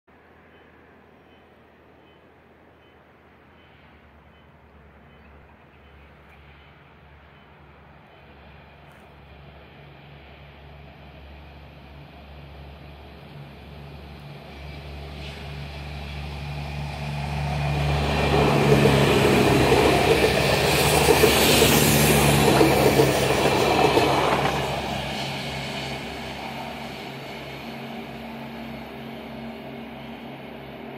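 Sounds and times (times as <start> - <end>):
train passing on rails: 0.1 - 30.9.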